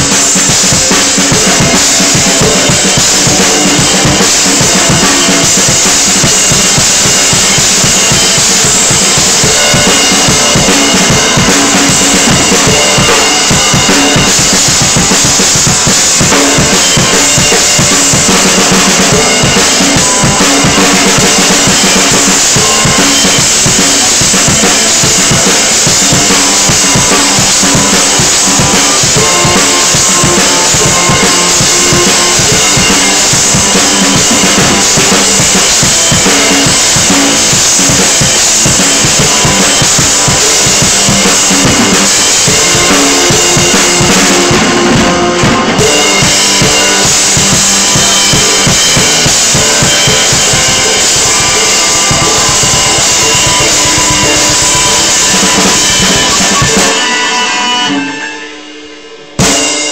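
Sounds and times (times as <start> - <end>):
bass drum: 0.0 - 57.0
snare drum: 0.0 - 57.8, 59.3 - 59.9
cymbals: 0.0 - 59.9.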